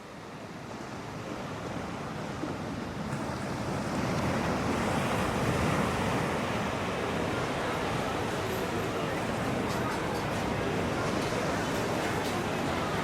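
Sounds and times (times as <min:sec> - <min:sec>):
rushing beach ambience: 0:00.0 - 0:13.0.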